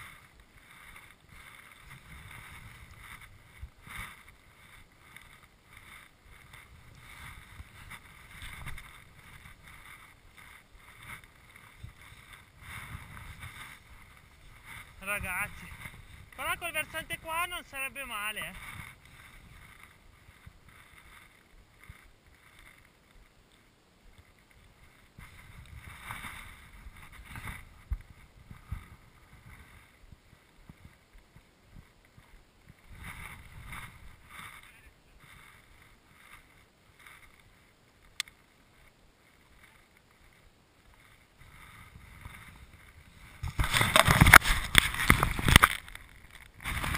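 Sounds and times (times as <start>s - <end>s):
skis swishing through powder snow: 0.0s - 23.4s, 24.0s - 46.9s.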